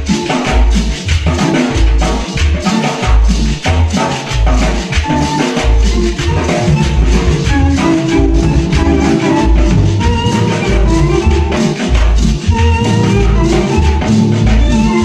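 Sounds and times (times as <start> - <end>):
cumbia music with electronic organ: 0.0 - 15.0.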